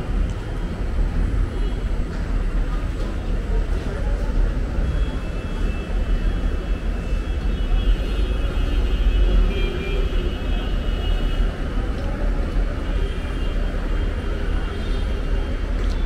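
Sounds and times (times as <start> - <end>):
city ambience rumble: 0.0 - 16.0.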